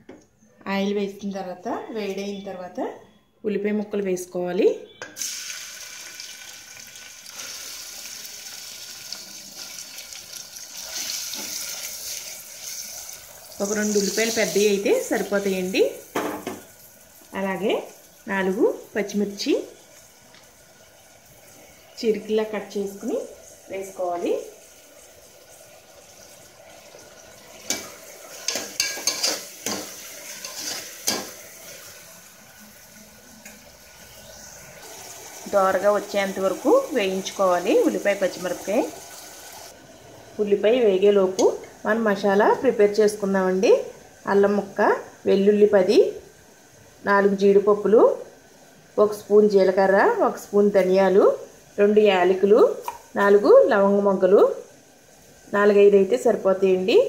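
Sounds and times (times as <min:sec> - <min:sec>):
onions sizzling in hot oil: 0:05.2 - 0:57.0.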